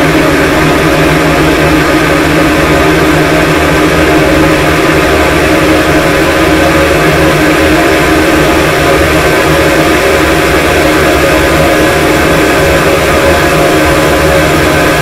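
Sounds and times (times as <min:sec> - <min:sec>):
dense distorted noise: 0:00.0 - 0:15.0
droning tones: 0:00.0 - 0:15.0.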